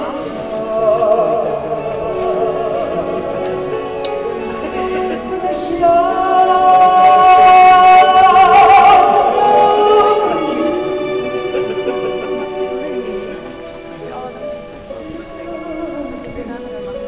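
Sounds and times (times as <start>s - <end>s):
sustained backing notes: 0.0s - 17.0s.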